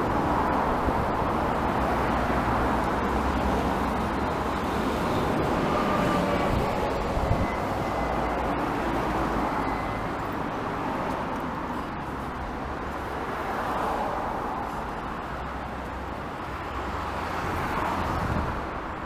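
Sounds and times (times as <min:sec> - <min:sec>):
road traffic rumble and hiss: 0:00.0 - 0:19.0.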